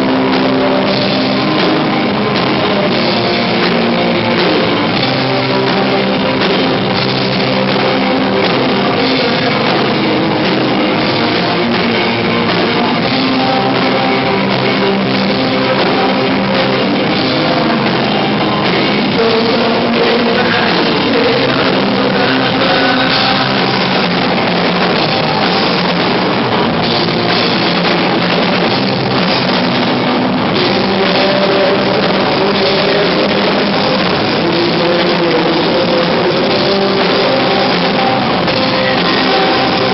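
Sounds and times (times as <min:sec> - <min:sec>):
drum kit: 0:00.0 - 0:39.9
guitars: 0:00.0 - 0:39.9
person singing: 0:00.0 - 0:39.9.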